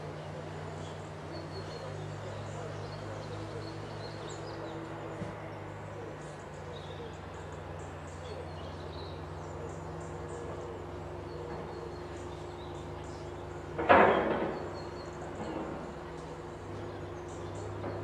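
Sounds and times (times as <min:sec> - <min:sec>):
low mechanical hum: 0:00.0 - 0:18.0
faint bird chirps: 0:00.1 - 0:18.0.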